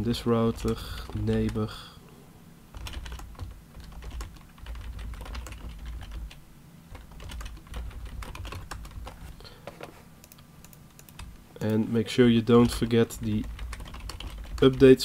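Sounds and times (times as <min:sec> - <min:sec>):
keyboard typing: 0:00.4 - 0:01.7, 0:02.7 - 0:11.8, 0:12.6 - 0:15.0.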